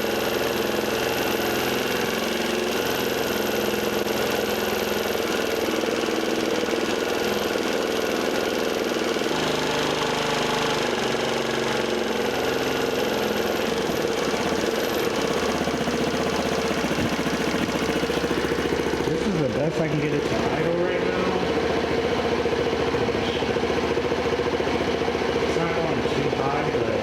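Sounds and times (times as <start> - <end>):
mini bike engine idling: 0.0 - 27.0.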